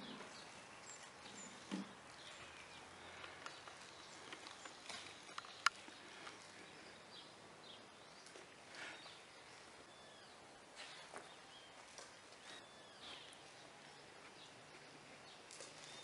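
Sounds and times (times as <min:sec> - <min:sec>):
faint birds chirping: 0:00.0 - 0:16.0
low background noise: 0:00.0 - 0:16.0.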